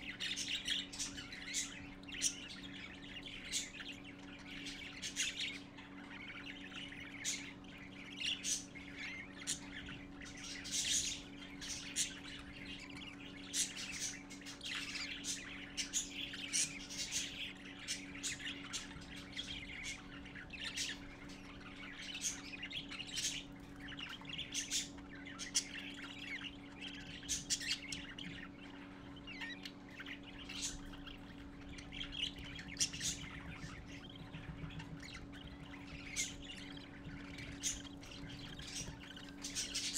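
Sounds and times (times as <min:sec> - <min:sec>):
parakeet chicks chirping: 0:00.0 - 0:39.9
steady low hum: 0:00.0 - 0:39.9.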